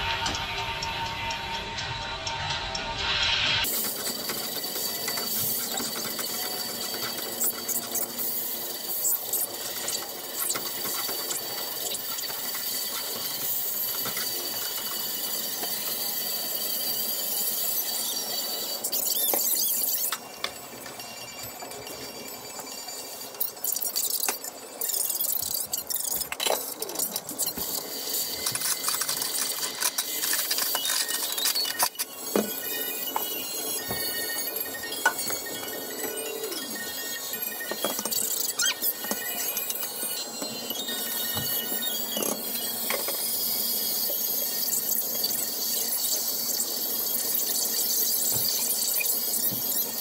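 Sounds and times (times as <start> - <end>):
porridge boiling in a pot: 3.6 - 50.0.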